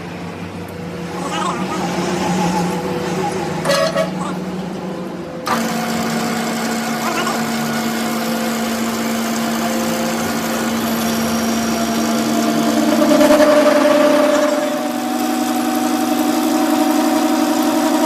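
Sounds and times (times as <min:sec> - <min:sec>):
higher hum: 0:00.0 - 0:18.0
machine motor humming: 0:00.0 - 0:18.0.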